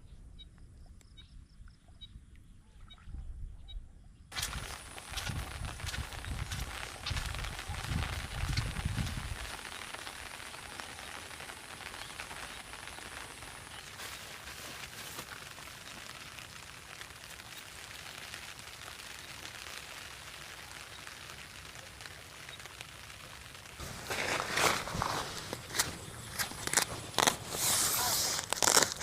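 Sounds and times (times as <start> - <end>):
rain falling: 4.3 - 29.0.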